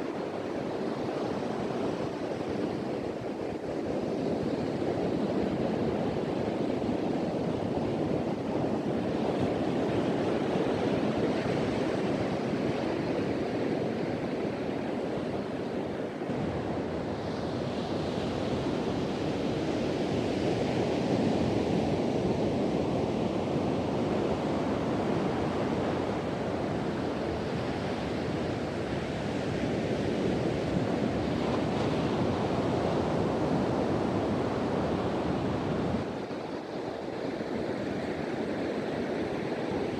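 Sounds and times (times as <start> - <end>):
ocean surf breaking on beach: 0.0 - 39.9
wind blowing across microphone: 0.0 - 39.9.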